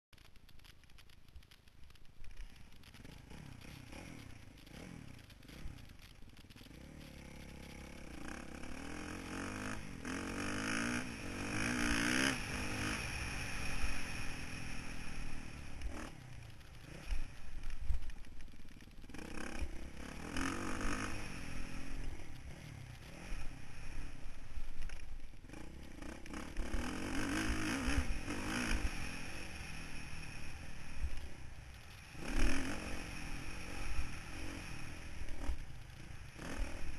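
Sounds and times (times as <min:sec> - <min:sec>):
motocross bike engine revving: 0:02.9 - 0:36.9.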